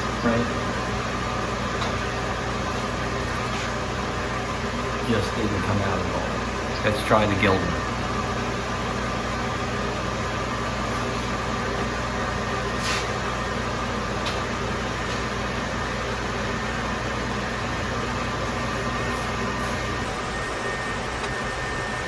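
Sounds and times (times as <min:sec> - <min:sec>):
machinery hum and fan whir: 0:00.0 - 0:22.0.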